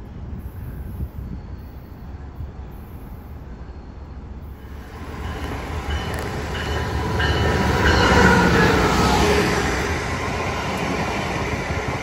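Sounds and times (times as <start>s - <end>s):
passenger train approaching: 0.0s - 12.0s.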